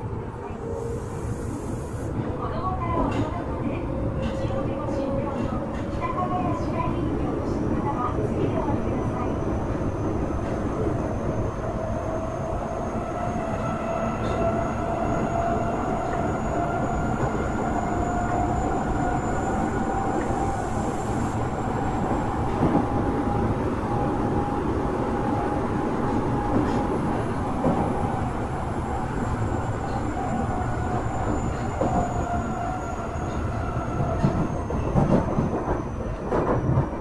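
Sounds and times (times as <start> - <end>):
wheels rumbling on rail: 1.1 - 37.0.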